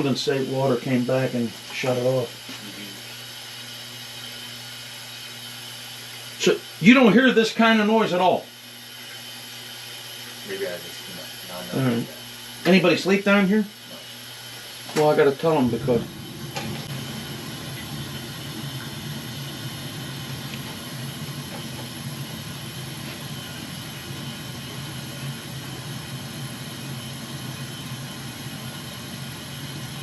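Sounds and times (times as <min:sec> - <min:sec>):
boiler water feed hissing: 0:00.0 - 0:30.0.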